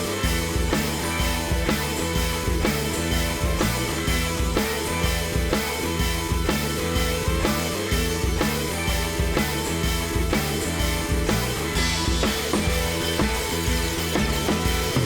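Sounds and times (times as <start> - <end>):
music with drums bass and guitar: 0.0 - 15.0.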